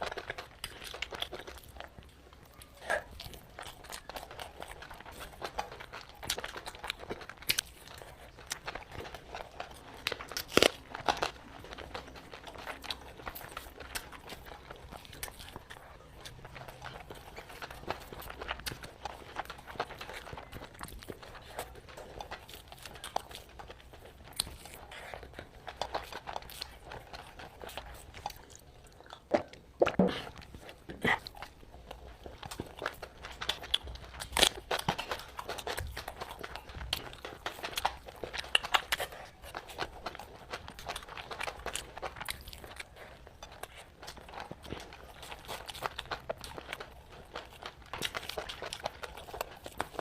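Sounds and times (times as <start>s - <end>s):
food crunches: 0.0s - 50.0s
person chewing food: 0.0s - 50.0s.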